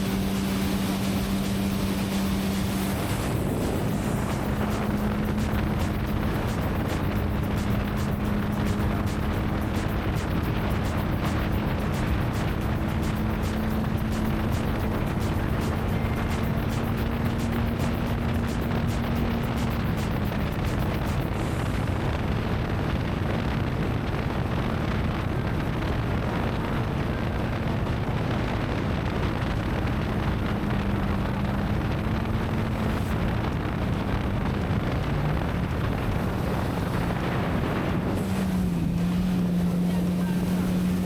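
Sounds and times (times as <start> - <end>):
jet ski engine running: 0.0 - 41.0
water rushing: 0.0 - 41.0
wind buffeting microphone: 0.0 - 41.0.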